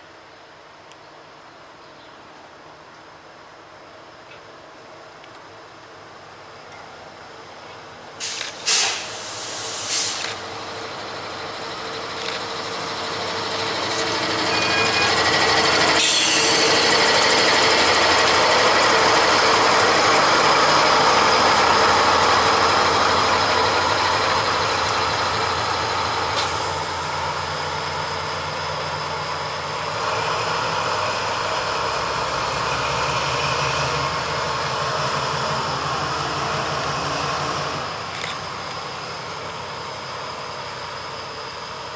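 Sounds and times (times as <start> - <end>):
train rumbling past: 6.0 - 41.9.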